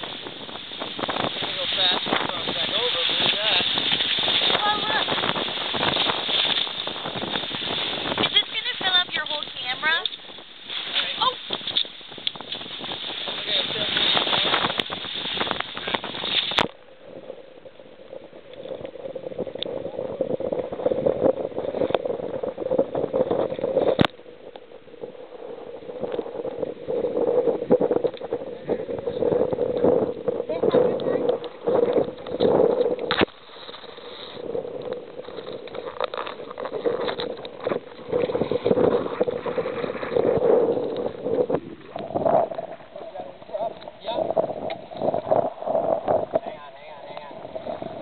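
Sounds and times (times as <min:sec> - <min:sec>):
water gurgling along a hull: 0:00.0 - 0:48.0
wind rushing on microphone: 0:00.0 - 0:48.0.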